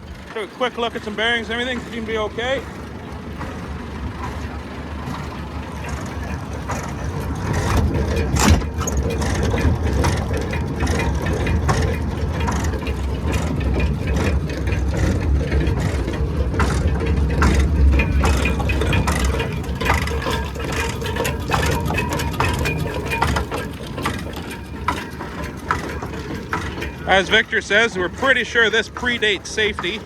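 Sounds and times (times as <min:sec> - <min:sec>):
manure spreader clattering: 0:00.0 - 0:30.0
tractor engine running: 0:00.0 - 0:30.0.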